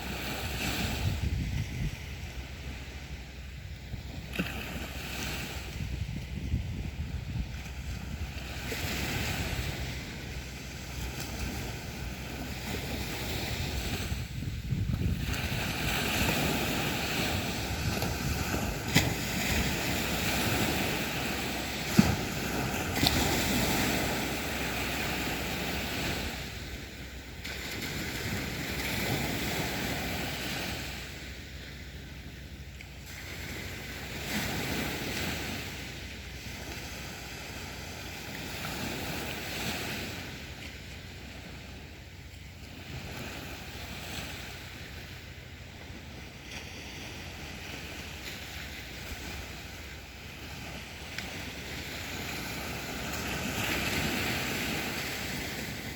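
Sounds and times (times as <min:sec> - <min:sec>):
sea waves washing onto beach: 0:00.0 - 0:55.9.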